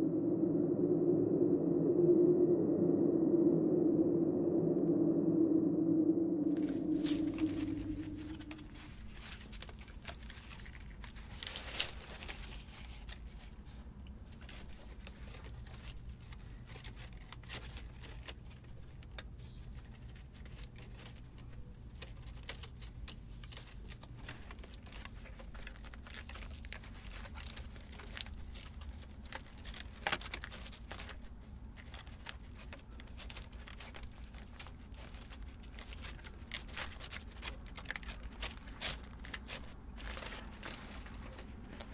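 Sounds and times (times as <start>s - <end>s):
dry leaves crackling and rustling: 6.5s - 41.9s.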